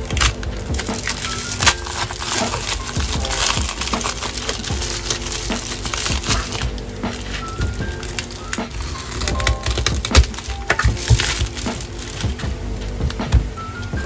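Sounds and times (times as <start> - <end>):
plastic mailer crinkling: 0.0 - 13.8.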